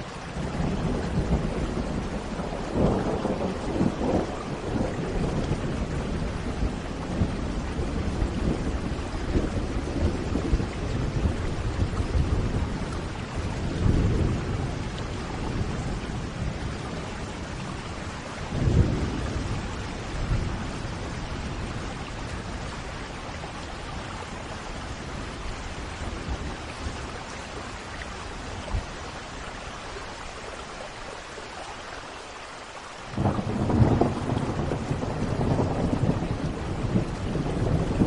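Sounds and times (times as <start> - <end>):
thunder rumbling: 0.0 - 29.0, 33.2 - 38.0
steady rain: 0.0 - 38.0.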